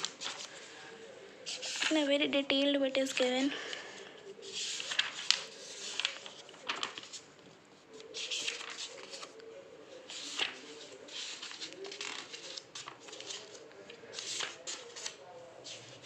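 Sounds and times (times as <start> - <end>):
book pages turning: 0.0 - 0.8, 1.5 - 2.1, 2.9 - 16.0.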